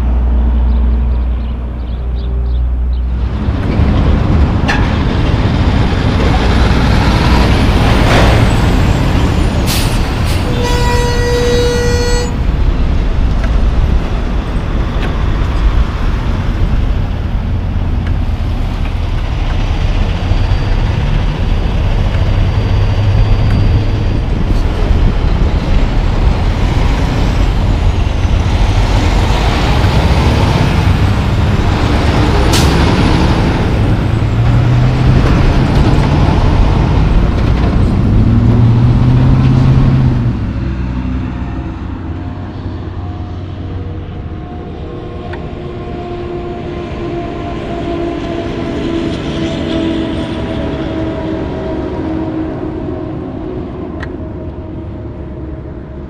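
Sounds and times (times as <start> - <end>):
diesel truck engines accelerating: 0.0 - 10.6, 12.3 - 56.0.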